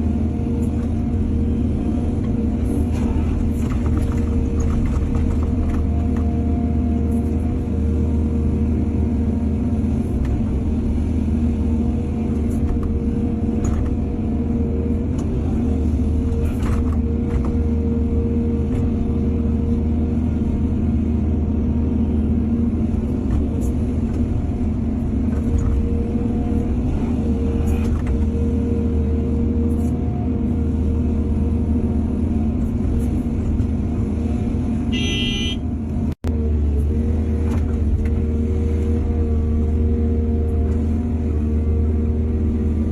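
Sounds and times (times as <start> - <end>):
excavator diesel engine droning: 0.0 - 42.9.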